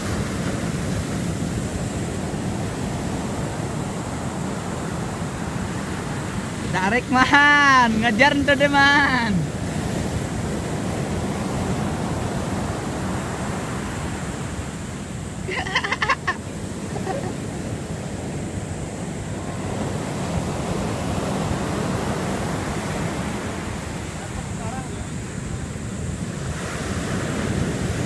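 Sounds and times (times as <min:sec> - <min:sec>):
waves breaking on shore: 0:00.0 - 0:28.0.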